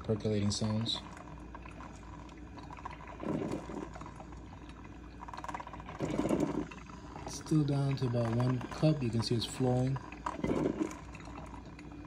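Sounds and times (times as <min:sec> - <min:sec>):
coffee maker bubbling hiss: 0:00.0 - 0:12.0
coffee maker gurgling spurts: 0:00.0 - 0:12.0.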